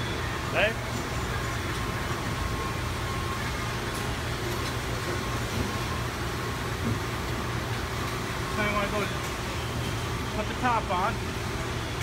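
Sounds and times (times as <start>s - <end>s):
machinery and ventilation hum: 0.0s - 12.0s.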